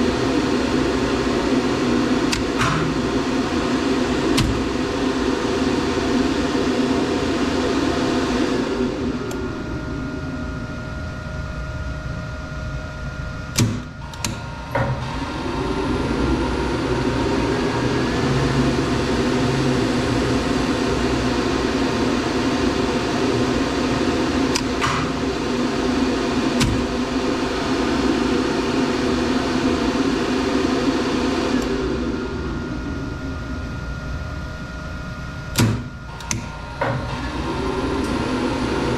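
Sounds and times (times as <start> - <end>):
elevator machinery humming: 0.0 - 38.9.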